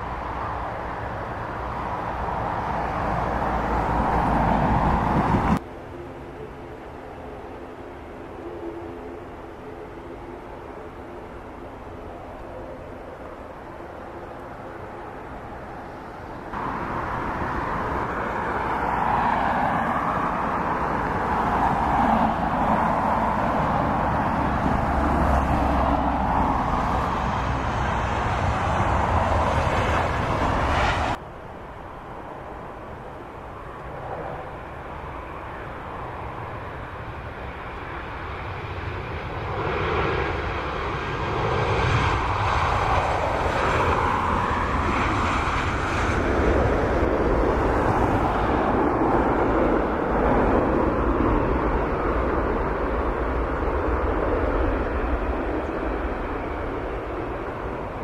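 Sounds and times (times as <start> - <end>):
jet engines running loudly: 0.0 - 58.0
jet plane coming in to land: 0.0 - 58.0.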